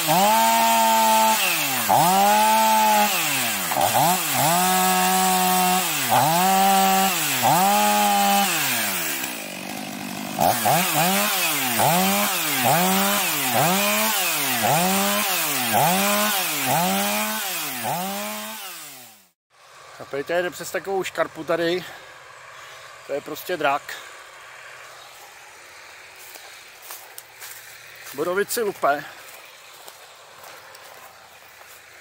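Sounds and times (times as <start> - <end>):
chainsaw cutting wood: 0.0 - 20.1, 21.7 - 32.0.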